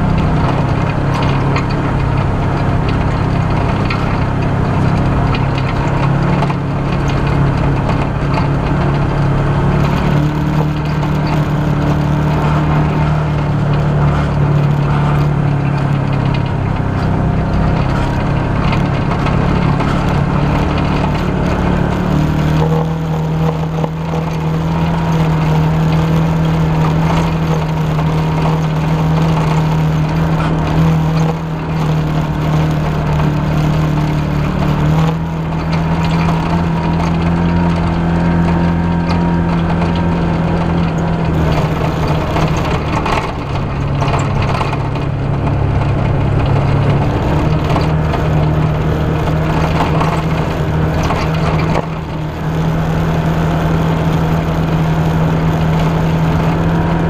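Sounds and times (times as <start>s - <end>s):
off-road vehicle engine droning: 0.0s - 57.0s
vehicle rattling over rough track: 0.0s - 57.0s.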